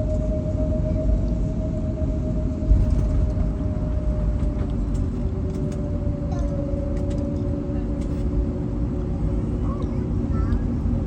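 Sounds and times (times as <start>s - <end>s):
jet engines whining and rumbling: 0.0s - 11.0s.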